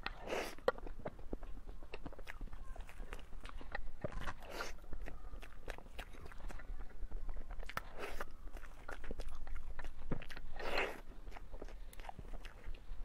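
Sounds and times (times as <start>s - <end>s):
wet mouth clicks while chewing: 0.0s - 13.0s.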